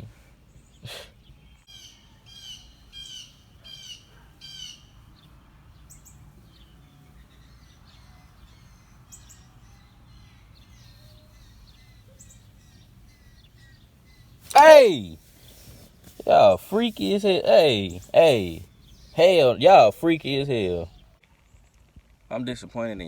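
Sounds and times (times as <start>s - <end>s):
bird chirping: 0.5s - 21.1s.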